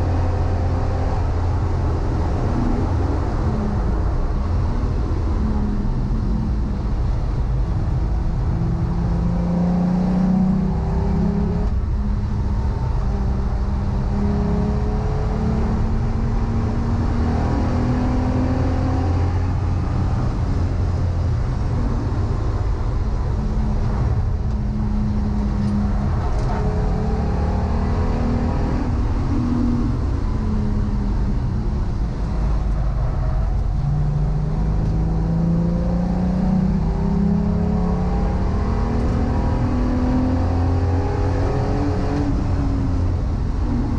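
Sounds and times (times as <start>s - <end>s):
race car engine revving: 8.5s - 43.9s.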